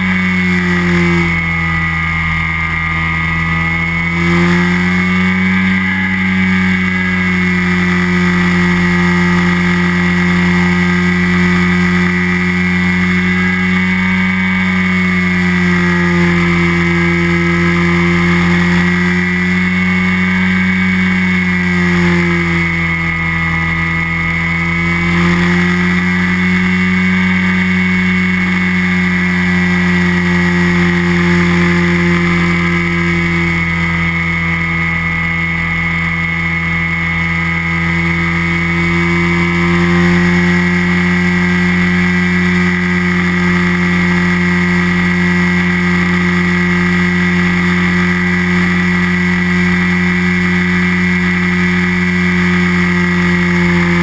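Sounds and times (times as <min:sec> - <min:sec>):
microlight engine and propeller drone: 0:00.0 - 0:54.0.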